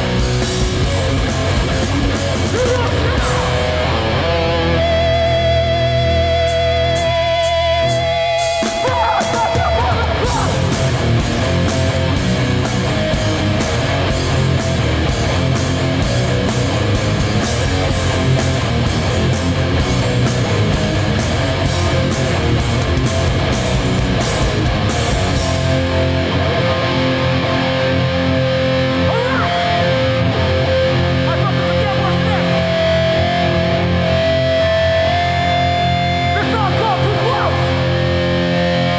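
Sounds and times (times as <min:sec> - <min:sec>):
distorted guitars ringing: 0:00.0 - 0:38.9
hardcore band playing loud: 0:00.0 - 0:38.9.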